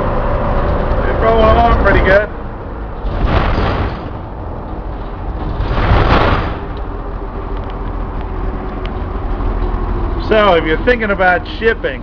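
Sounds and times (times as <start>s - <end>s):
rushing noise: 0.0s - 10.4s
diesel van engine driving: 0.0s - 12.0s
road rumble: 0.0s - 12.0s.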